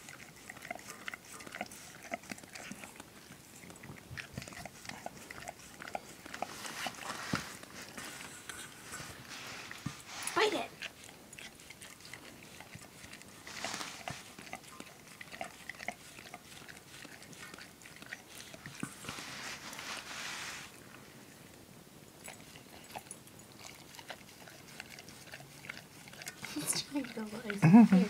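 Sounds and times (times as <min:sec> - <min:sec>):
dog licking in metal bowl: 0:00.0 - 0:19.3, 0:22.2 - 0:28.0.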